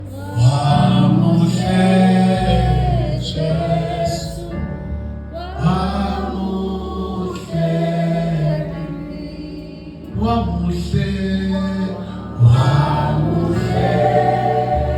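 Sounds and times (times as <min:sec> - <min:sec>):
gospel singing: 0:00.0 - 0:14.9
steady low bass: 0:00.0 - 0:14.9.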